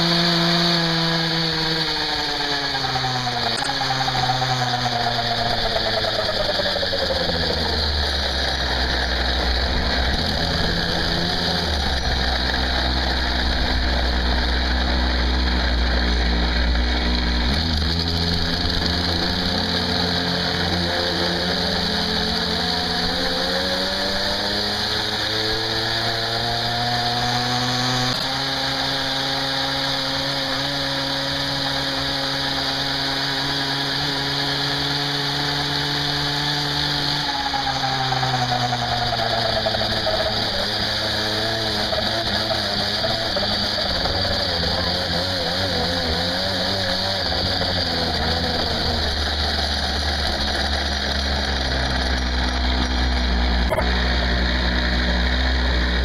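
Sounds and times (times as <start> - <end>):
small two-stroke engine running: 0.0 - 56.0.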